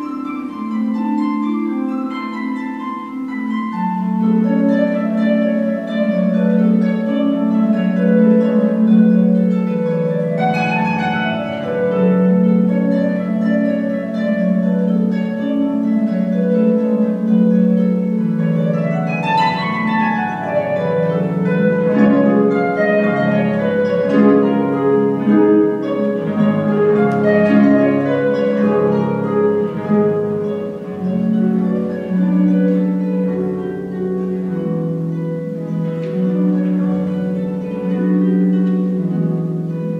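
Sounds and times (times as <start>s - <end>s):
harp playing: 0.0s - 39.9s.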